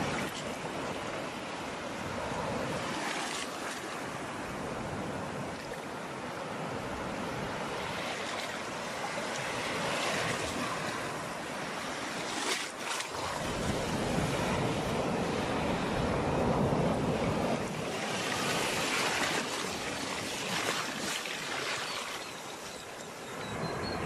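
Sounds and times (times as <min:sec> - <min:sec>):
ocean surf washing on beach: 0:00.0 - 0:24.0.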